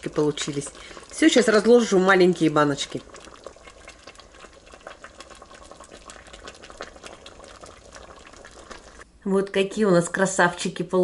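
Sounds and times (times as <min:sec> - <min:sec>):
jam bubbling in a pot: 0:00.0 - 0:09.1.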